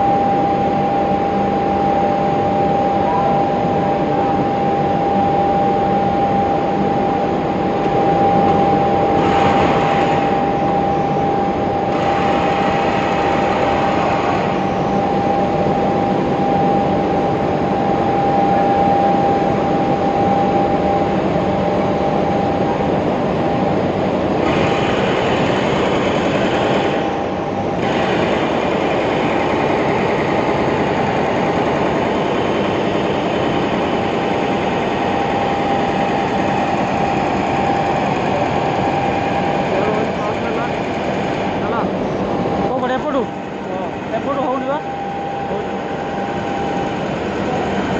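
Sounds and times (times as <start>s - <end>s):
gas burners roaring: 0.0s - 47.9s
steady hum: 0.0s - 47.9s.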